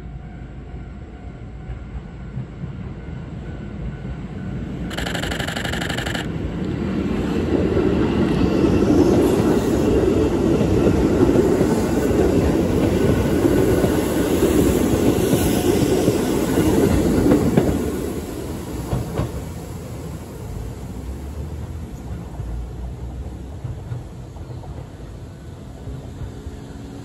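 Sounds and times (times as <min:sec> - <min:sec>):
electric train passing: 0:00.1 - 0:27.0
train wheels on rails: 0:01.6 - 0:27.0.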